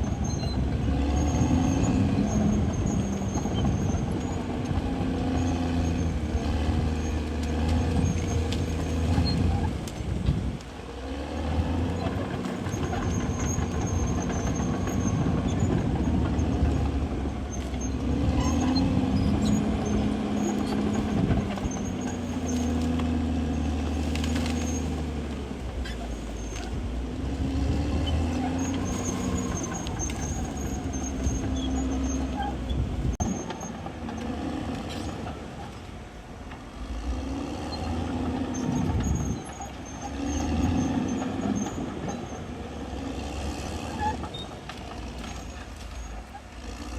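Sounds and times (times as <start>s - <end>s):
bulldozer diesel engine under load: 0.0s - 46.9s.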